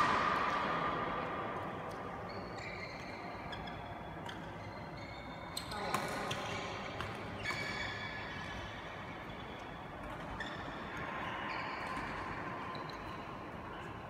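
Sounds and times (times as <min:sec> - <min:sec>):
sports hall background noise: 0:00.0 - 0:14.0.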